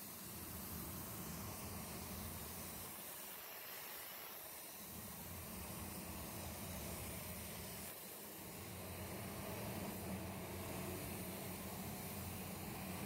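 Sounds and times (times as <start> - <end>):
spray gun air hiss: 0.0 - 13.0.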